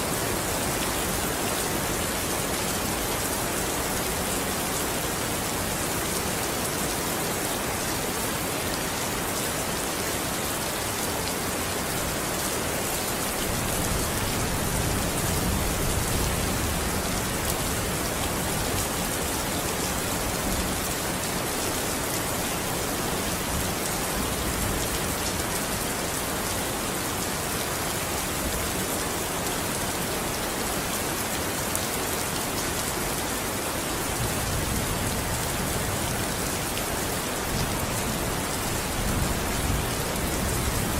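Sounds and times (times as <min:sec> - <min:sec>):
steady rain hissing: 0:00.0 - 0:40.9.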